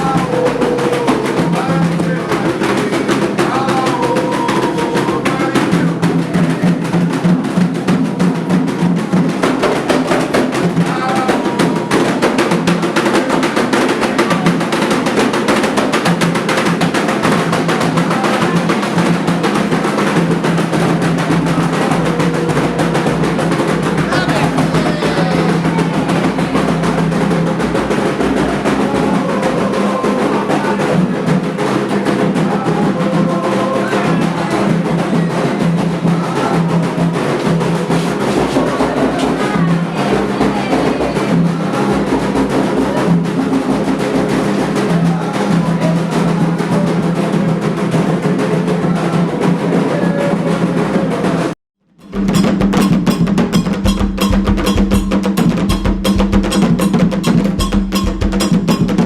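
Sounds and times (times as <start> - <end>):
hand drums and percussion: 0.0 - 59.0.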